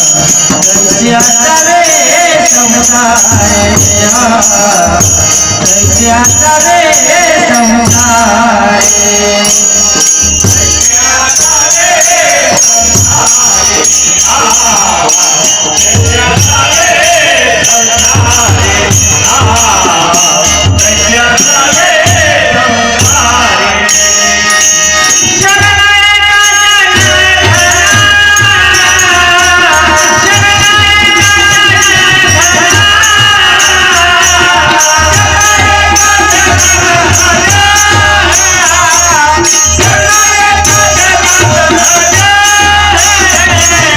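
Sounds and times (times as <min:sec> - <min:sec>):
devotional melody: 0:00.0 - 0:43.9
jingling percussion: 0:00.0 - 0:43.9.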